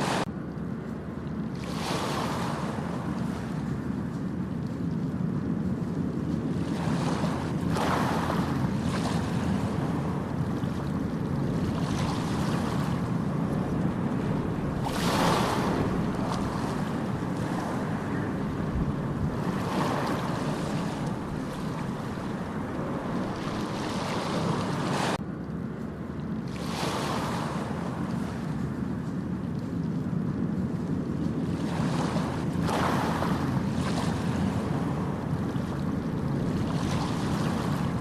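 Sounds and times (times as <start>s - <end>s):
ocean waves breaking on beach: 0.0s - 25.2s, 26.0s - 38.0s
wind on microphone: 0.0s - 25.2s, 25.8s - 38.0s.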